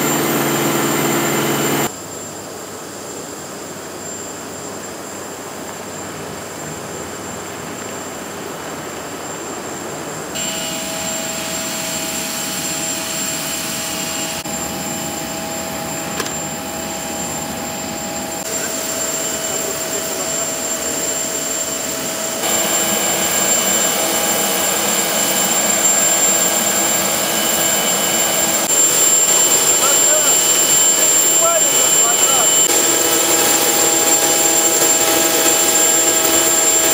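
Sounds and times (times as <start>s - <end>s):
jet turbine whine: 0.0s - 36.9s.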